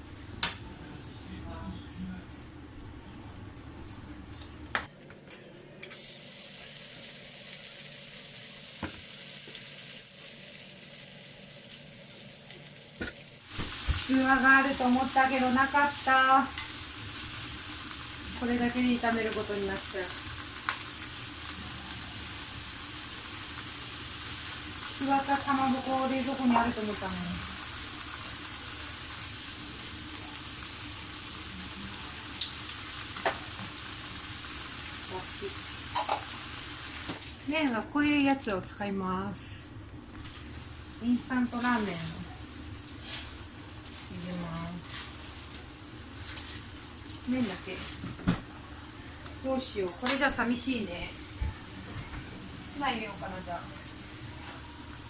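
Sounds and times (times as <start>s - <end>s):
food sizzling in a frying pan: 5.9s - 38.5s, 40.1s - 55.0s.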